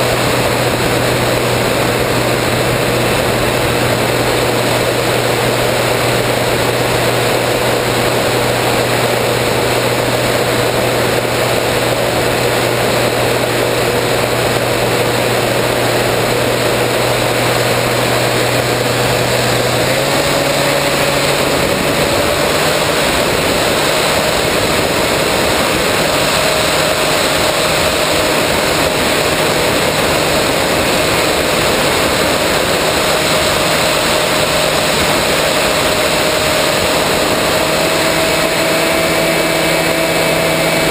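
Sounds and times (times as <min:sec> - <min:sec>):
electric motor and propeller: 0:00.0 - 0:40.9
wind rushing over microphone: 0:00.0 - 0:40.9.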